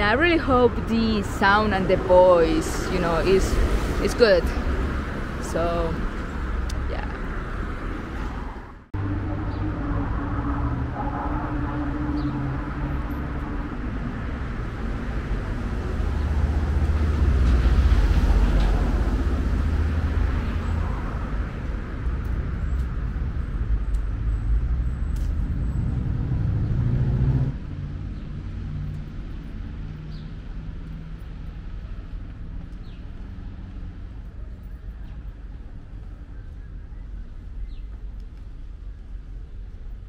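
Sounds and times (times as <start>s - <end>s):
passing cars rumble: 0.0s - 40.0s
quiet street hum: 0.0s - 40.0s.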